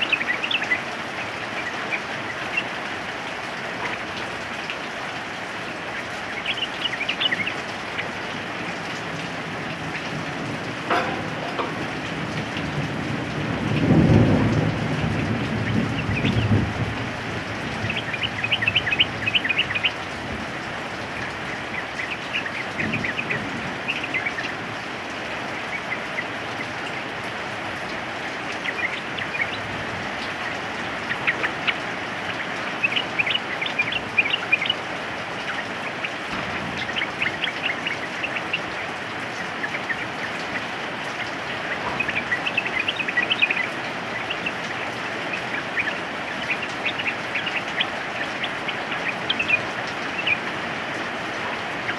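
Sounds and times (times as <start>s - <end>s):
rain hiss: 0.0s - 51.9s.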